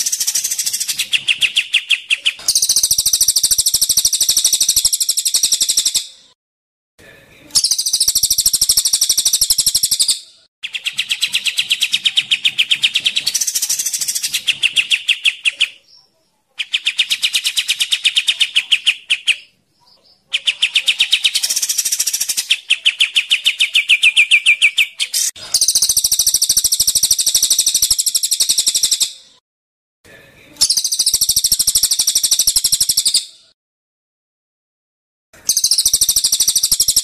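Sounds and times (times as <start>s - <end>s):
cage birds singing: 0.0s - 6.4s, 7.5s - 29.3s, 30.6s - 33.4s, 35.4s - 37.0s.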